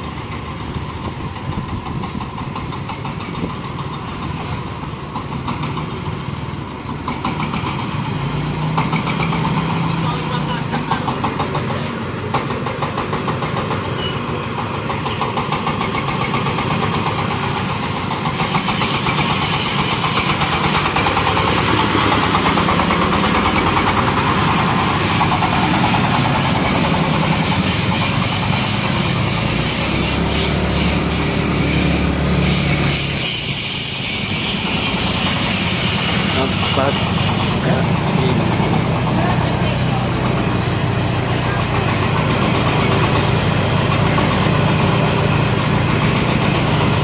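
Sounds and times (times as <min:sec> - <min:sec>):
corn sheller machine running: 0:08.6 - 0:47.0.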